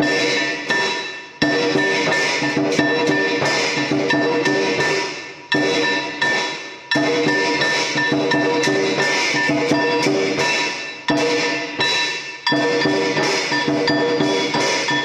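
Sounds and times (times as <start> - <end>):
sharp percussion strikes: 0.0 - 15.0.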